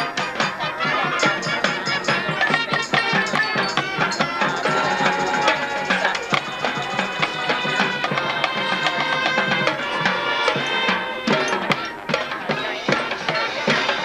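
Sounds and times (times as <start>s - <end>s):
drum and percussion strikes: 0.0s - 14.0s
wind and brass chords: 0.0s - 14.0s.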